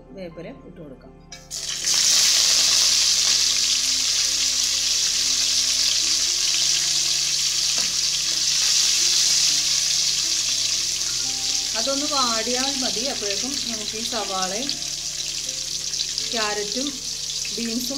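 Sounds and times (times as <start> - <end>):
loud steady sizzle in oil: 1.5 - 17.9.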